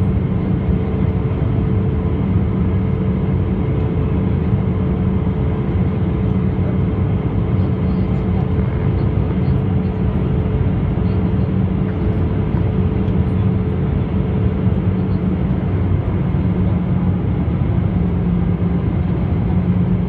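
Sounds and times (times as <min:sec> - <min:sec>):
jet engines in flight: 0:00.0 - 0:20.0.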